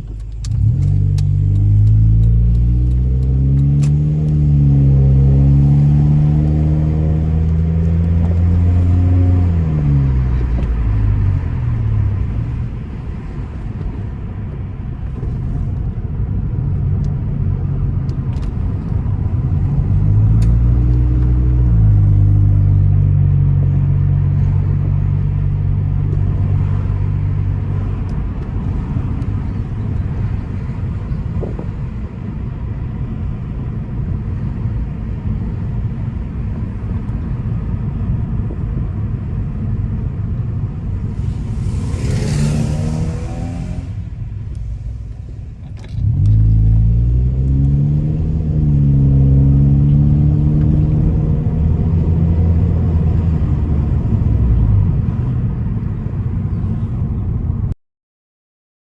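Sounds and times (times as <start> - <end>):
car engine and exhaust: 0.0 - 57.8.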